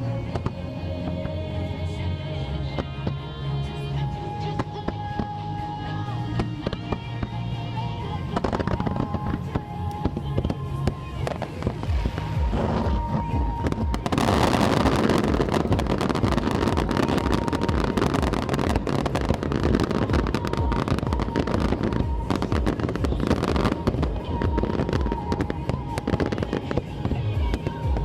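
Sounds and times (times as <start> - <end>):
fireworks bursting and crackling: 4.2 - 28.0.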